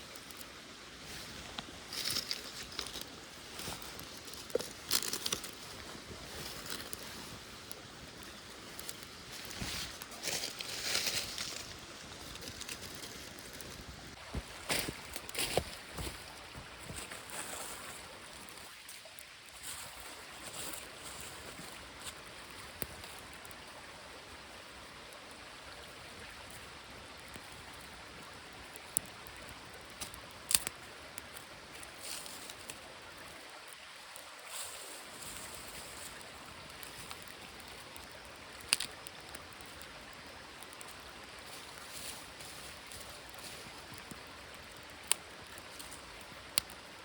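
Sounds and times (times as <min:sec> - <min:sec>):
small stream rushing: 0:00.0 - 0:47.0.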